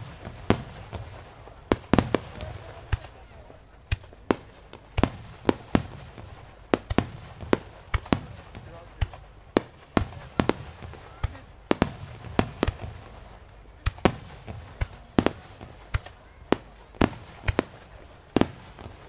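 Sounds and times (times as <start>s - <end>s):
fireworks bursting with echo: 0.0s - 19.0s.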